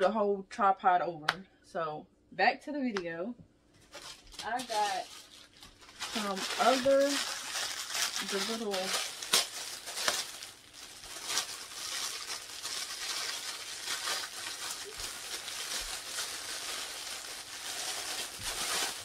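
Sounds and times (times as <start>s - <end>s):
plastic packaging crinkling: 3.8s - 19.0s.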